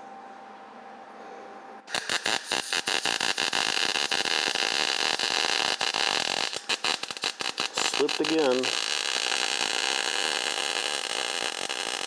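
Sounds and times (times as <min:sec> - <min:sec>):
welding arc crackling: 0:01.9 - 0:12.0.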